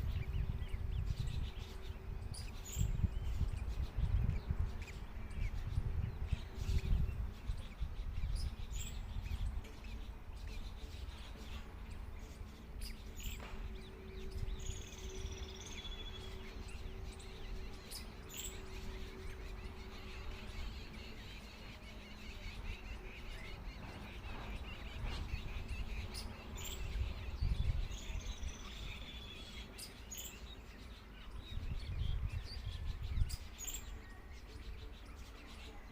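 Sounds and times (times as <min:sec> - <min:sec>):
steady low rumble: 0:00.0 - 0:29.8, 0:30.4 - 0:35.7
birds chirping: 0:00.0 - 0:35.9.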